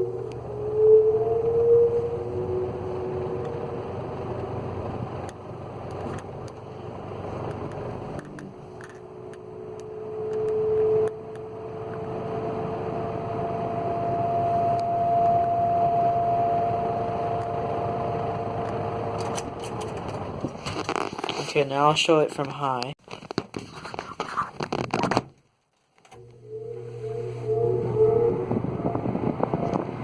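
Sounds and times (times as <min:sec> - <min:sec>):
air rushing from fan blades: 0:00.0 - 0:21.4, 0:26.4 - 0:30.0
fan motor humming and whining: 0:00.0 - 0:21.5, 0:26.1 - 0:30.0.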